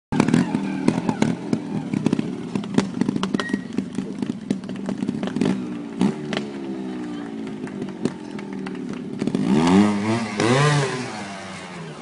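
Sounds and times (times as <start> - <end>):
motorcycle engine throttle blips: 0.1 - 12.0
motorcycle knocking against rocks: 0.2 - 10.6.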